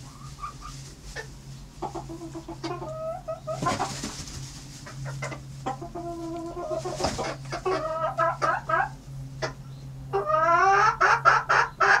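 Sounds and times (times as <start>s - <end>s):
hen clucking and squawking: 0.0s - 12.0s.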